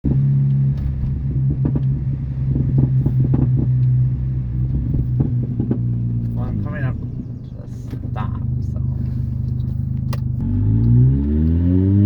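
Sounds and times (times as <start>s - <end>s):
exhaust crackles and pops: 0.1s - 11.6s
car engine running: 0.1s - 11.9s.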